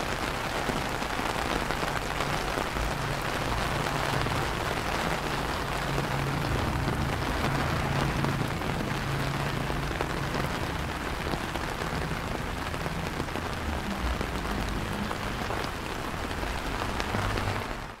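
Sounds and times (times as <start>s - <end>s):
rain on wet paving: 0.0s - 18.0s.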